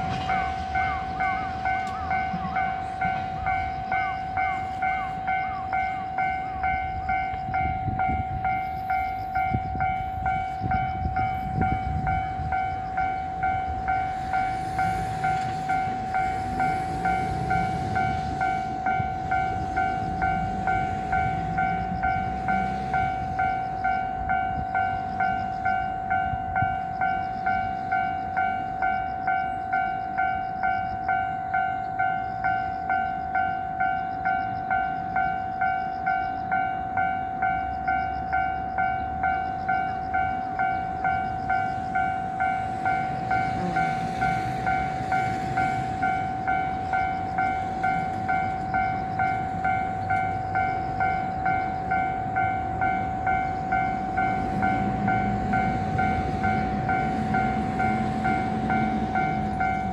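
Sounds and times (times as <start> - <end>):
distant freight train rumble: 0.0 - 59.9
level crossing alarm ringing: 0.0 - 59.9.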